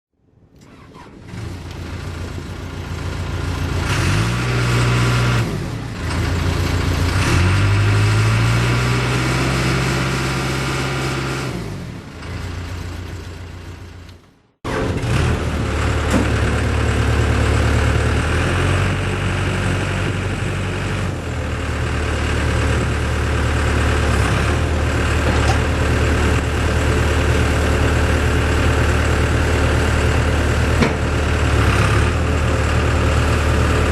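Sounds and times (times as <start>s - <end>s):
diesel engine running: 0.6s - 33.9s.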